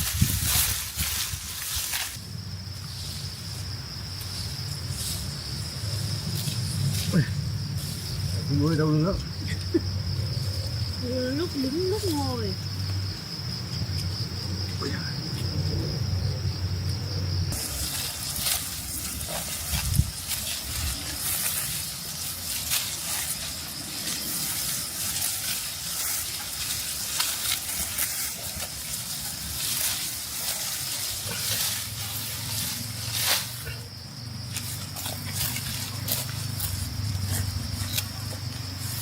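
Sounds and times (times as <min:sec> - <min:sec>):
dry stalks rustling and crackling: 0:00.0 - 0:13.0, 0:17.5 - 0:39.0.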